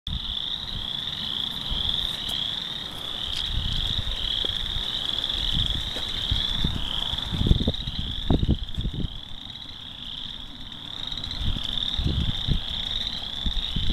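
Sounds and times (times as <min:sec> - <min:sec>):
frogs trilling chorus: 0:00.1 - 0:13.9.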